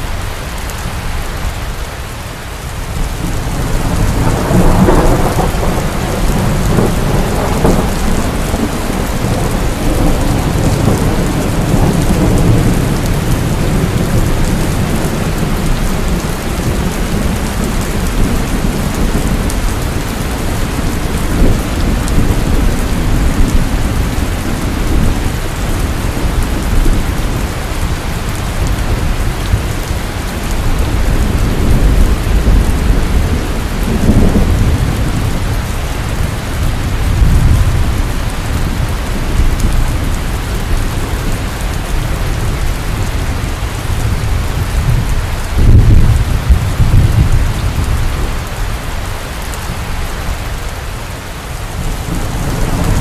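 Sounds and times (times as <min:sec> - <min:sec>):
heavy rain pouring: 0:00.0 - 0:53.0
thunder rumbling: 0:02.7 - 0:53.0.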